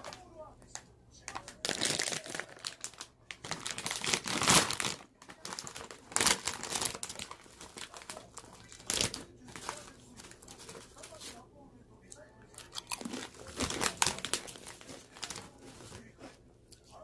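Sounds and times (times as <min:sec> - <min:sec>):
paper wrapper crinkling: 0:00.0 - 0:11.4, 0:12.6 - 0:16.3.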